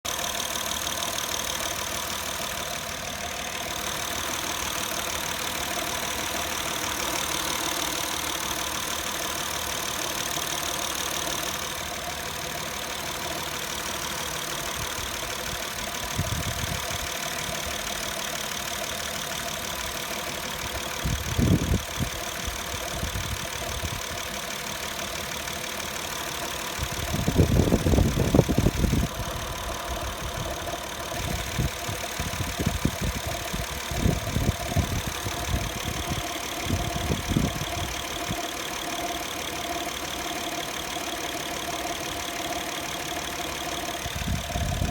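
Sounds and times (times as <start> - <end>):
car engine idling with tones: 0.0 - 44.9.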